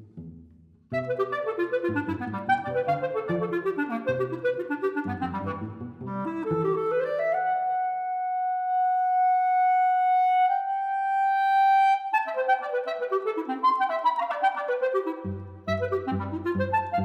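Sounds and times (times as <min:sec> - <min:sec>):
solo clarinet: 0:00.9 - 0:17.0.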